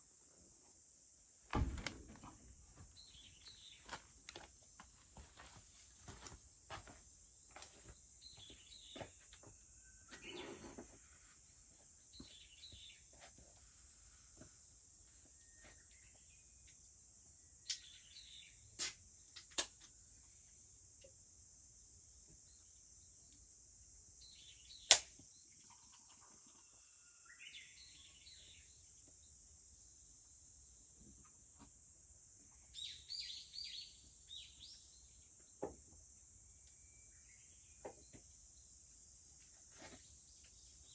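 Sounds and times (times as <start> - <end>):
cicadas droning: 0.0 - 40.9.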